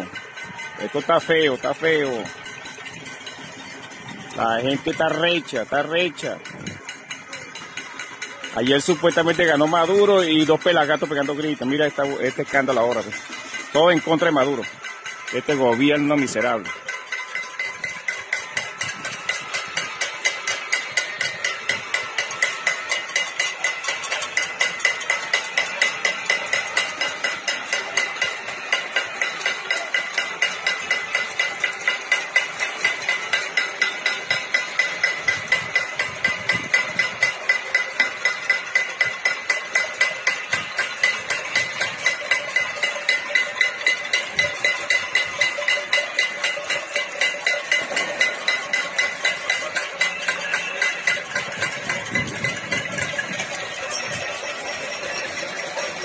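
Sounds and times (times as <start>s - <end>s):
pot struck in rapid beat: 0.0s - 56.0s
pots and pans banging: 0.0s - 56.0s.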